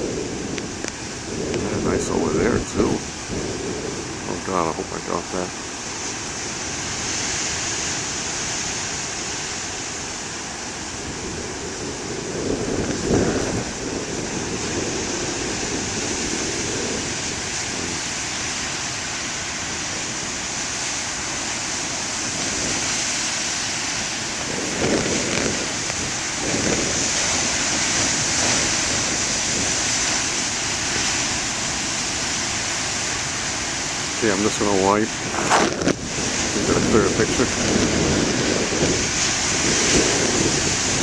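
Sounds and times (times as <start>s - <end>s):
heavy surf breaking: 0.0s - 41.0s
wind buffeting microphone: 0.0s - 41.0s.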